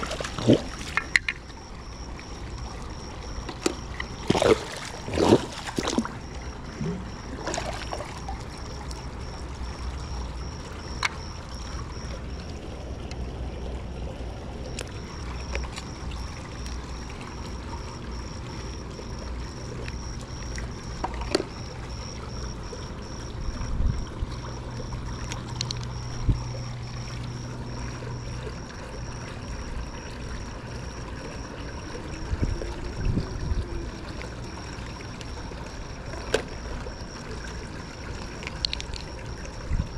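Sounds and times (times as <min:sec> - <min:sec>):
low mechanical hum: 0:00.0 - 0:39.9
pool water trickling: 0:00.0 - 0:39.9.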